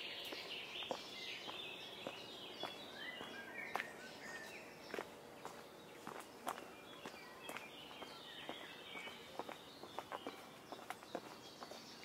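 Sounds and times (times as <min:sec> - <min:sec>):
songbirds singing and chirping: 0:00.0 - 0:12.0
footsteps walking: 0:00.2 - 0:11.9.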